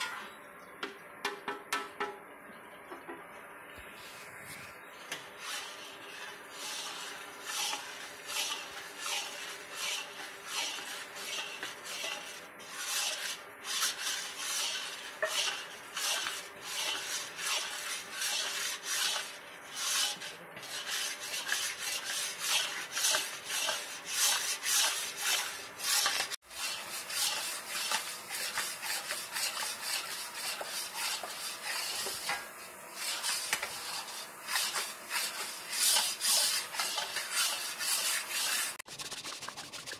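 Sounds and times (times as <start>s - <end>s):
metal spatula scraping a wok: 0.0s - 0.4s, 4.9s - 39.1s.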